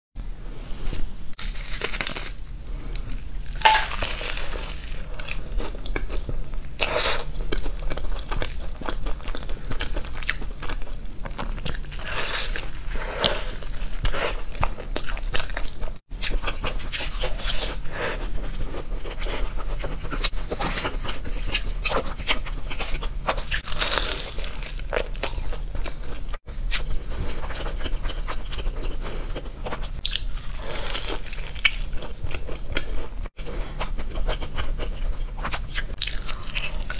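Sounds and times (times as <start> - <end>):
crunchy pastry chewing: 1.4 - 36.9.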